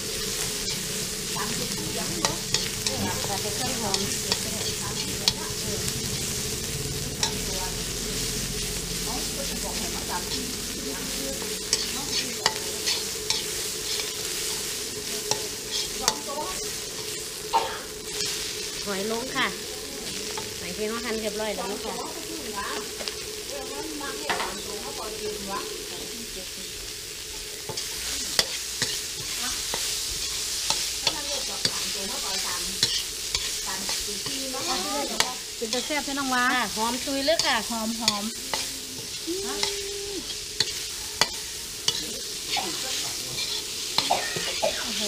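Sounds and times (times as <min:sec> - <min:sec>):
metal spoon scraping a pan: 0:00.0 - 0:06.5, 0:07.1 - 0:07.9, 0:08.5 - 0:23.4, 0:27.1 - 0:45.0
paste sizzling in oil: 0:00.0 - 0:45.0
spatula stirring in wok: 0:00.0 - 0:45.0.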